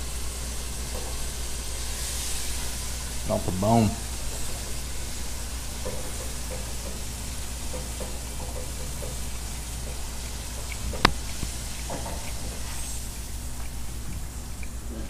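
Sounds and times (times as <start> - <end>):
fish deep-frying in hot oil: 0.0 - 14.9.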